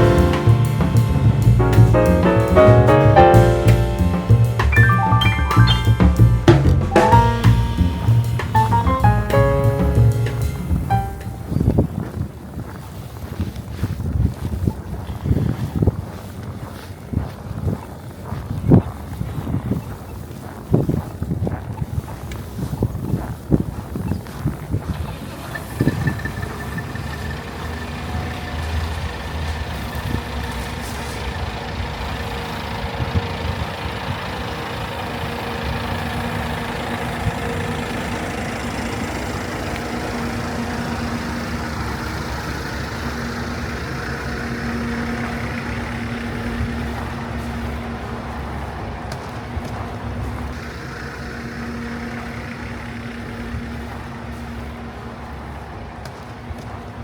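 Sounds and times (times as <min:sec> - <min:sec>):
engine humming nearby: 0:00.0 - 0:57.0
street noise: 0:00.0 - 0:57.0.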